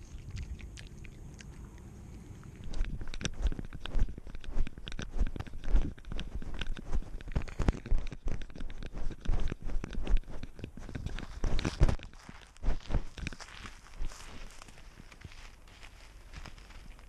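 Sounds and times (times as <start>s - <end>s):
cat paws on gravel: 2.4s - 17.0s.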